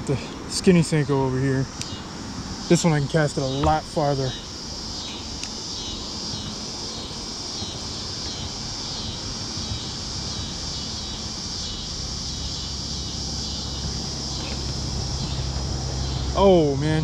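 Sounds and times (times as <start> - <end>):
insects droning: 0.0 - 17.0
low background rumble: 1.0 - 17.0.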